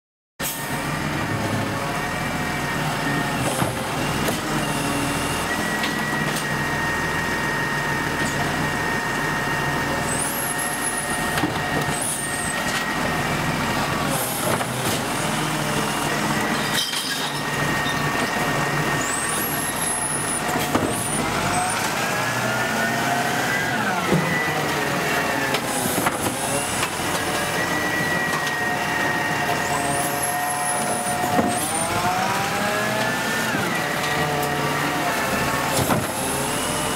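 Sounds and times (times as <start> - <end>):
garbage truck diesel engine running: 0.4 - 36.9
hydraulic lift arm whine: 0.4 - 36.9.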